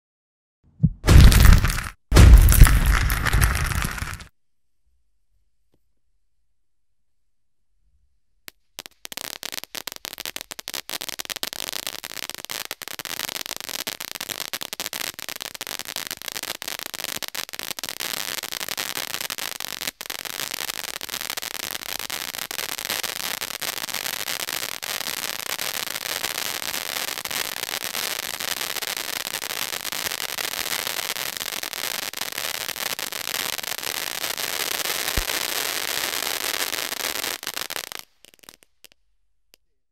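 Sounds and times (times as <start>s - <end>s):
firework fountain crackling: 1.0s - 4.3s, 8.8s - 39.0s.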